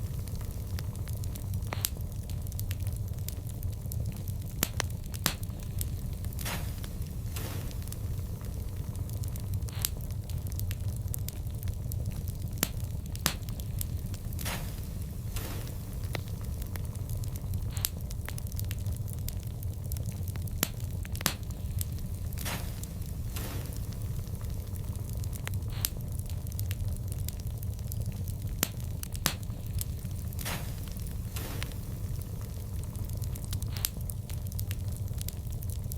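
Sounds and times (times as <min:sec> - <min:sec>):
burning wood crackling and popping: 0:00.0 - 0:35.9
fire hissing: 0:00.0 - 0:35.9.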